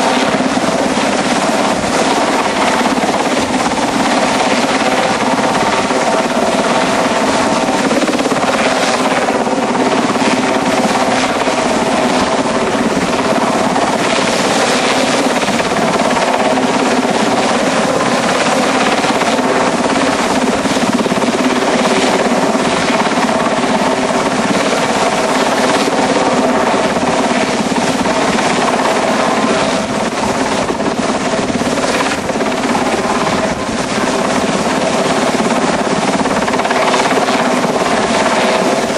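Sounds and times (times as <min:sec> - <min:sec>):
helicopter engine drone: 0:00.0 - 0:38.9.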